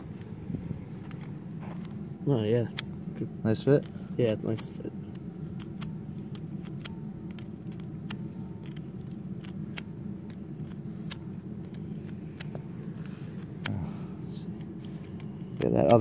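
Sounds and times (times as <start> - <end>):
steady low hum: 0.0 - 16.0
light metallic clicks and scrapes: 0.1 - 13.7.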